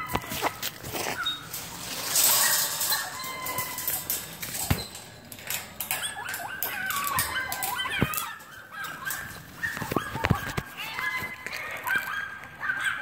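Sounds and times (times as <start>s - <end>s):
high wavering animal calls: 0.0s - 5.0s, 5.8s - 13.0s.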